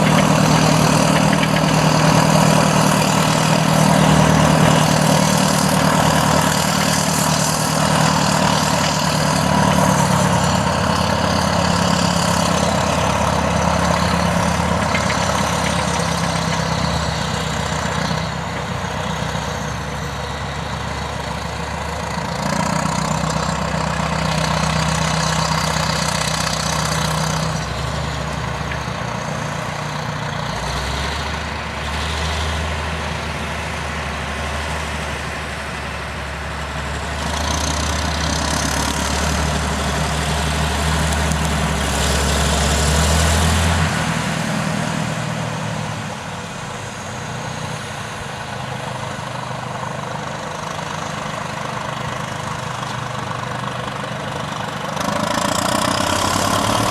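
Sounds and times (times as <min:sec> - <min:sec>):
heavy diesel engines under load: 0:00.0 - 0:56.9.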